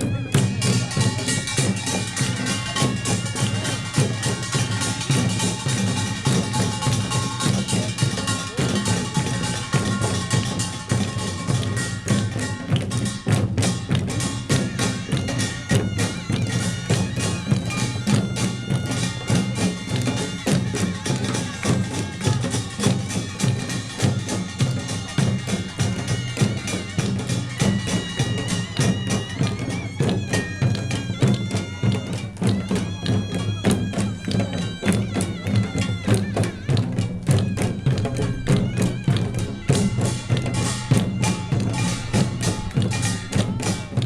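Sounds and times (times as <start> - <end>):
drumming: 0.0 - 44.0
small gongs clanging: 0.1 - 30.5, 37.6 - 43.9.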